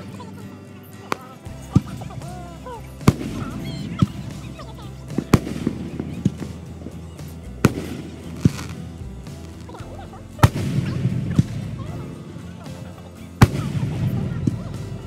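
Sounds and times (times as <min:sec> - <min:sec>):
firework shells bursting: 0:01.0 - 0:14.2.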